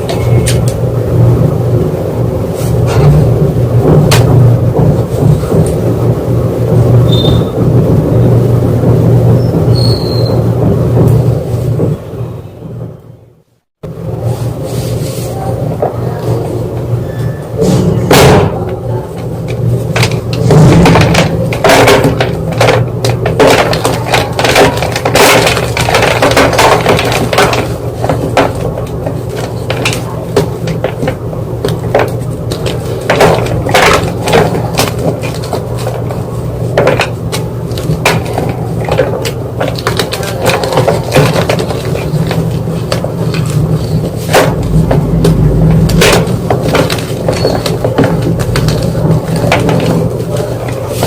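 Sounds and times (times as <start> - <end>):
steady low hum: 0.0 - 9.7, 10.4 - 51.0.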